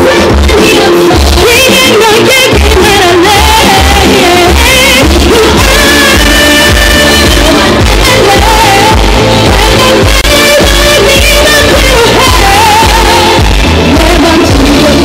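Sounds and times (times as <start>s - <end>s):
pop backing track with bass beat: 0.0s - 15.0s
woman singing into microphone: 0.0s - 15.0s.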